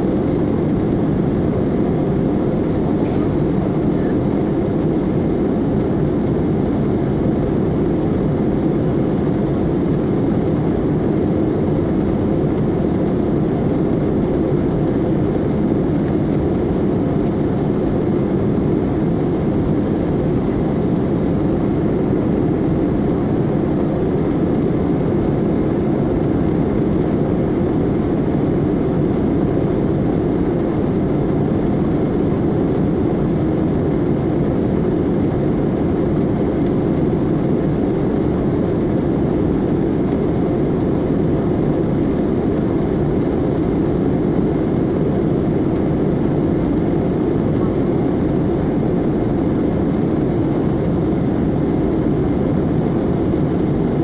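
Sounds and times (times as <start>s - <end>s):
airplane cabin noise: 0.0s - 54.0s.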